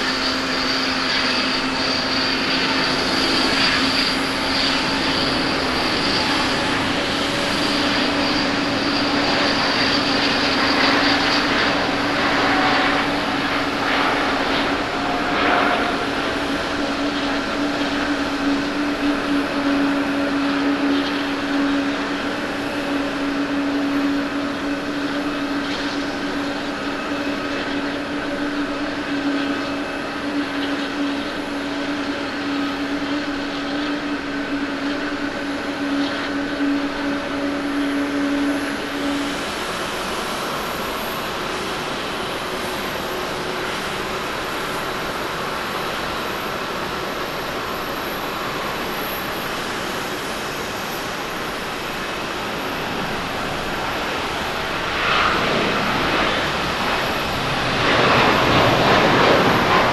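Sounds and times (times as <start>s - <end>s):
jet engine roar: 0.0s - 59.9s.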